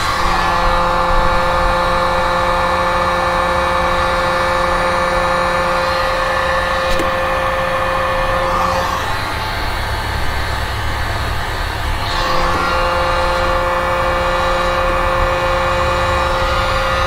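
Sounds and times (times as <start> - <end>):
heat gun fan whine: 0.0 - 17.0.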